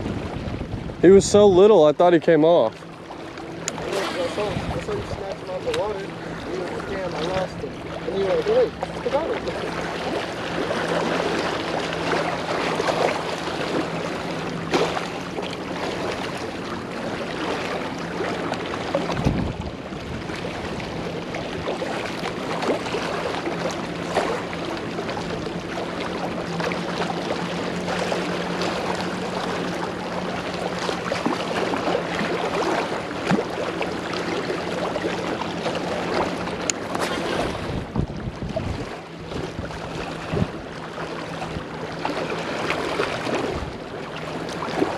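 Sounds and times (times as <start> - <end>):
constant low hum: 0.0 - 44.9
water noise: 0.0 - 44.9
wind: 0.0 - 44.9.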